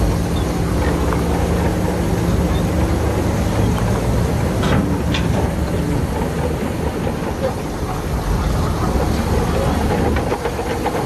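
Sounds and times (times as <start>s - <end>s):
bulldozer diesel engine running: 0.0s - 11.0s
tracks rattling: 0.0s - 11.0s.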